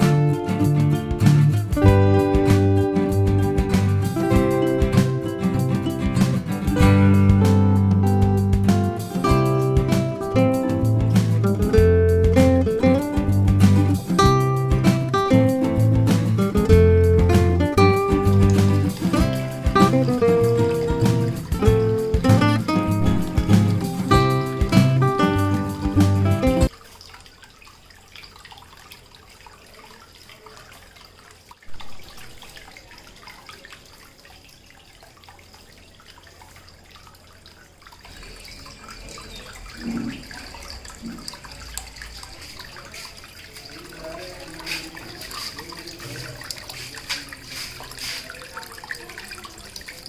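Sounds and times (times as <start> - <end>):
water trickling and splashing: 0.0 - 50.0.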